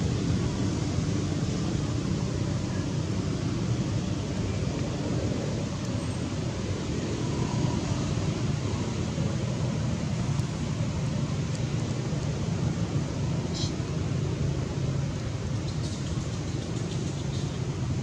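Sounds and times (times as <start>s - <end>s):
steady rumbling noise: 0.0s - 18.0s.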